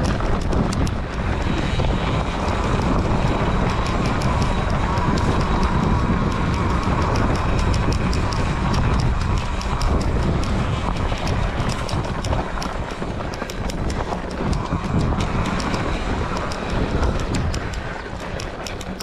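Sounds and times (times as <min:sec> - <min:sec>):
quick irregular ticking: 0:00.0 - 0:19.0
wind buffeting microphone: 0:00.0 - 0:19.0.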